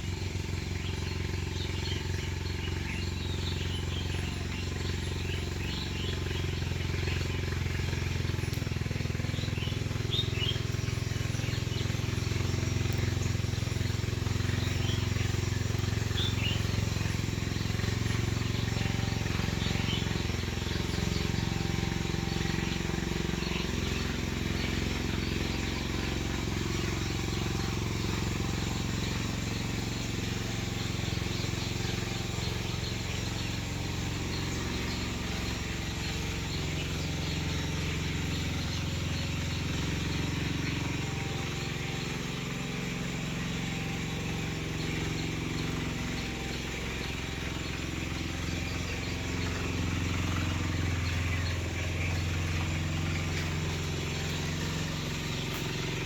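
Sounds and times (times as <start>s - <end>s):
low engine hum: 0.0s - 56.0s
outdoor ambience: 0.0s - 56.0s.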